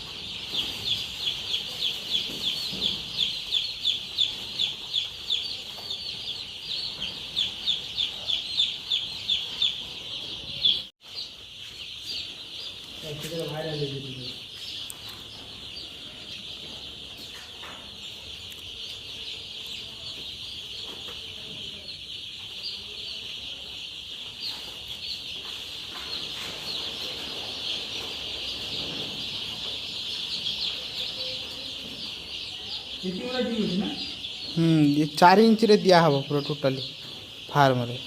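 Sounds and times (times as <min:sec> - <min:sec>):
chicks cheeping: 0:00.0 - 0:38.0.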